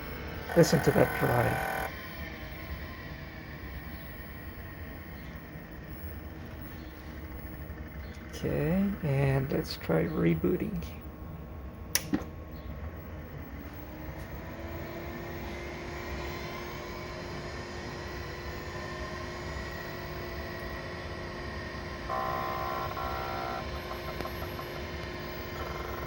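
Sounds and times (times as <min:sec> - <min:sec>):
disk drive buzzing: 0:00.0 - 0:10.8, 0:12.0 - 0:26.0
computer fan whine and hum: 0:00.0 - 0:26.0.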